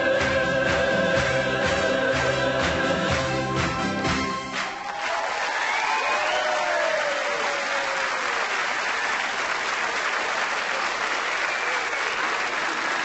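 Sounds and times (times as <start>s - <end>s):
studio audience applauding: 0.0s - 13.0s.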